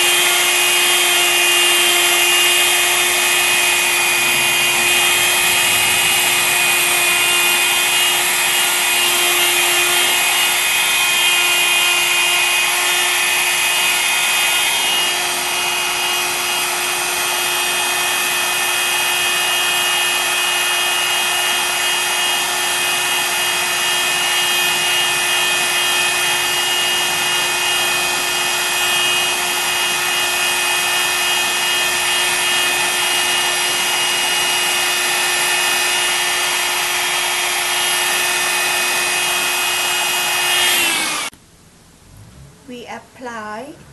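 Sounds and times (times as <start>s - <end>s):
hot air gun whining: 0.0s - 41.4s.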